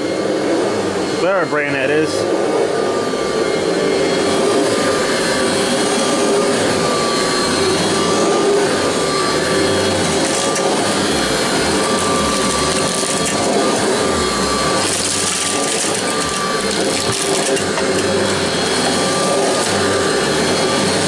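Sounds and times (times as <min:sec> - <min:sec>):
vacuum cleaner running: 0:00.0 - 0:21.0
beater bar brushing carpet: 0:00.1 - 0:21.0.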